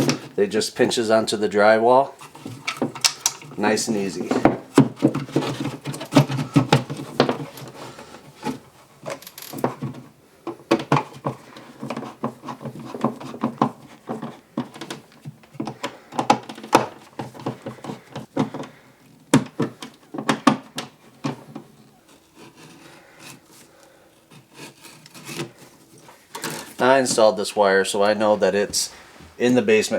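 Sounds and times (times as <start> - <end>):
electrical box knocking and scraping: 0.0 - 1.2, 2.2 - 27.4.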